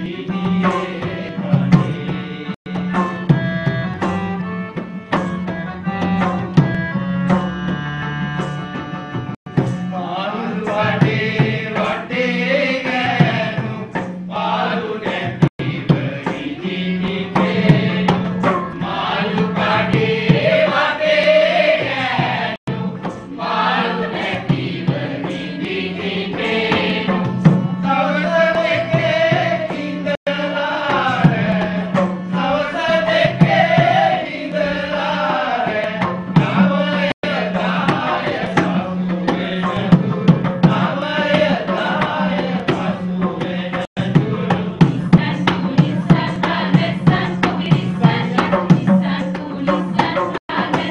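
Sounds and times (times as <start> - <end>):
man and women's choir singing: 0.0 - 2.6, 10.0 - 50.9
hand-drum strokes: 0.0 - 50.9.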